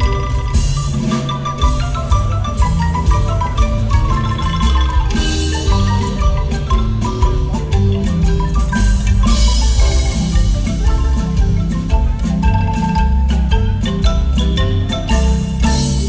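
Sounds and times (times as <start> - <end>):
marimba music: 0.0 - 16.0
steady low bass: 1.8 - 16.0.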